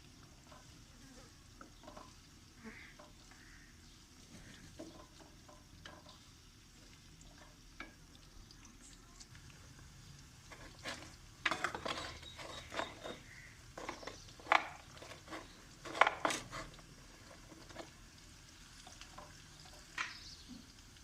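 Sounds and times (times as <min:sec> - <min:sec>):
onions sizzling: 0:00.0 - 0:21.0.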